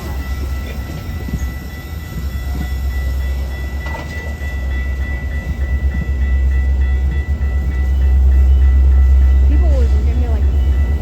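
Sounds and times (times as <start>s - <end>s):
high-pitched steady tone: 0.0s - 11.0s
train rumbling past: 0.0s - 11.0s.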